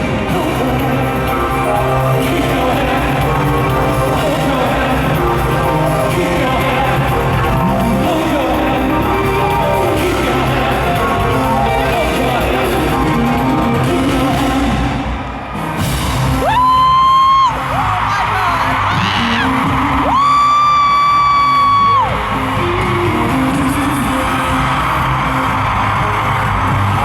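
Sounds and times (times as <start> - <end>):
man singing: 0.0 - 15.4, 17.6 - 25.2
live band playing: 0.0 - 27.0.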